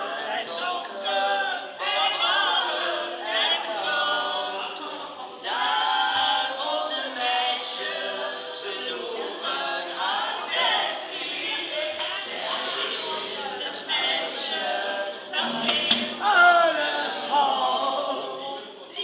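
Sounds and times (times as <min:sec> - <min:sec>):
women singing in unison: 0:00.0 - 0:19.0.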